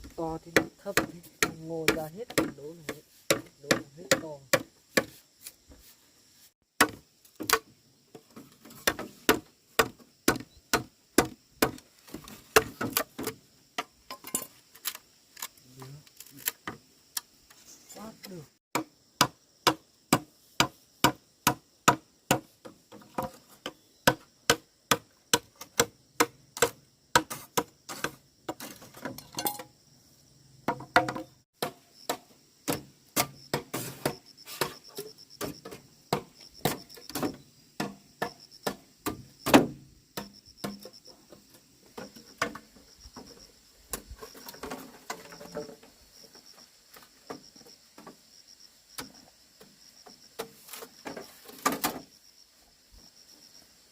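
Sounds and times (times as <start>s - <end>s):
insects buzzing: 0.0s - 53.9s.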